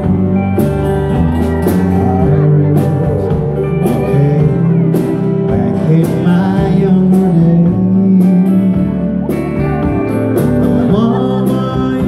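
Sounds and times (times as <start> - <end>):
bass guitar: 0.0 - 12.0
drum beat: 0.0 - 12.0
electric guitar: 0.0 - 12.0.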